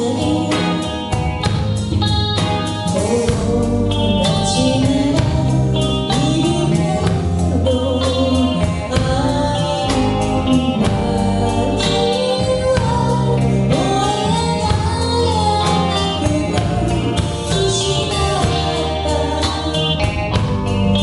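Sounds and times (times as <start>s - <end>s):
band accompaniment: 0.0s - 21.0s
person singing pop ballad: 0.0s - 21.0s.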